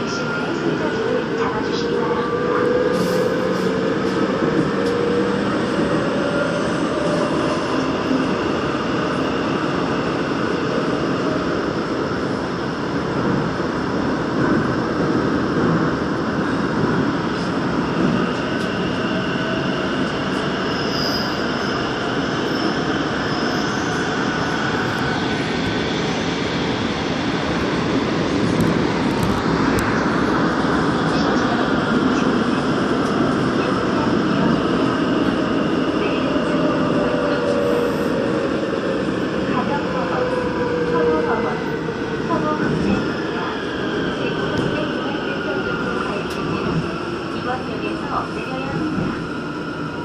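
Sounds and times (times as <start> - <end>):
subway train rumbling in tunnel: 0.0 - 50.0.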